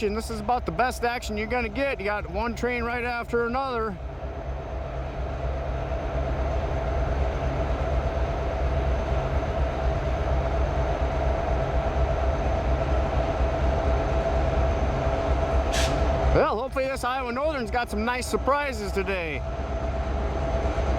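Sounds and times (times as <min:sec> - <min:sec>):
constant whine: 0:00.0 - 0:20.9
freight train rumbling on rails: 0:00.0 - 0:20.9.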